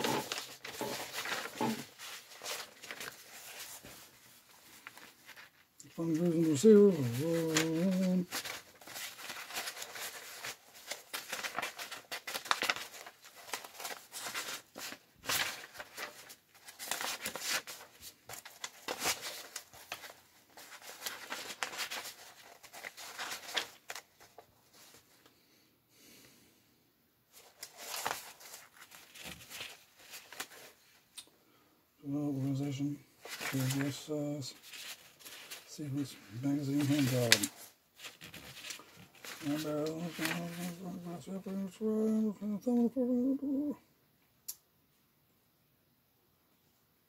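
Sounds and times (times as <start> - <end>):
paper pages rustling: 0.0 - 25.4, 27.3 - 31.0, 32.5 - 42.7.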